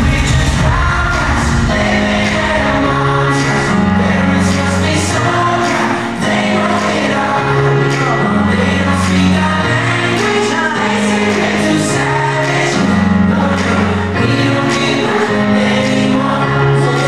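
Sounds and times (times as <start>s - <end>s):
heavy bass line: 0.0s - 15.8s
person singing: 0.0s - 17.0s.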